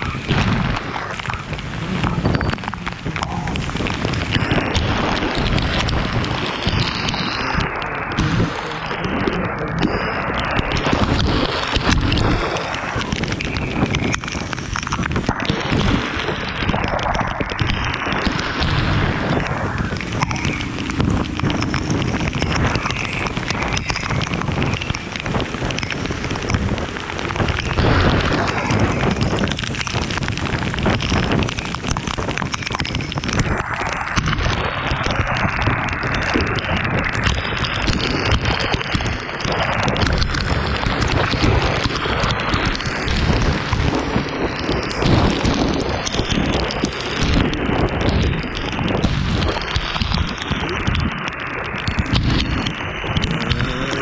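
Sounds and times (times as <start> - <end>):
rain: 0.0 - 54.0
road noise: 0.0 - 54.0
wind buffeting microphone: 0.0 - 54.0.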